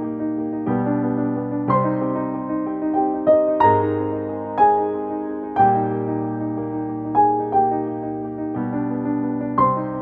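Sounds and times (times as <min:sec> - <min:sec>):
soft electric piano chords: 0:00.0 - 0:10.0.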